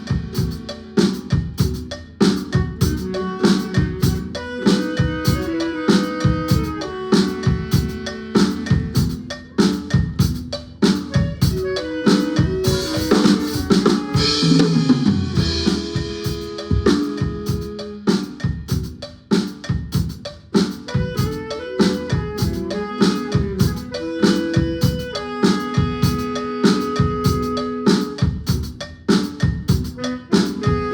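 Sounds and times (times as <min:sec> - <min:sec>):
drum kit beat: 0:00.0 - 0:30.9
marimba notes: 0:00.0 - 0:30.9.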